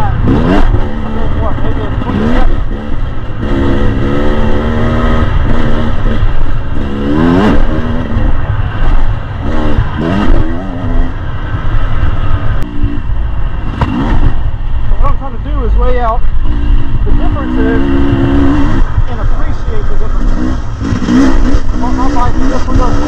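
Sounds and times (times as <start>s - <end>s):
dirt bike engine revving: 0.0s - 23.0s
wind rumble on microphone: 0.0s - 23.0s.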